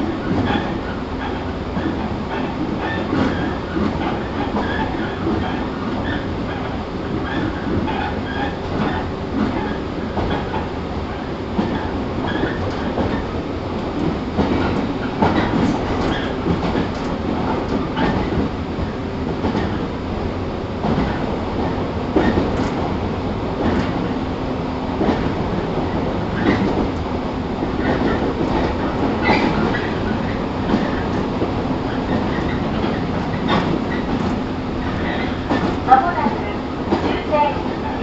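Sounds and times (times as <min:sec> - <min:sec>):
wheels clacking over rail joints: 0:00.0 - 0:19.9, 0:20.8 - 0:23.0, 0:24.9 - 0:38.0
electric train rumble and hum: 0:00.0 - 0:38.0.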